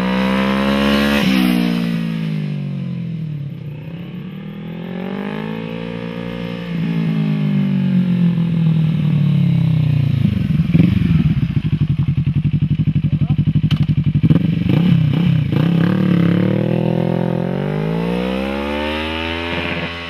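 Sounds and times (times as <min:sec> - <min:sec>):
motorcycle engine loud exhaust: 0:00.0 - 0:20.0.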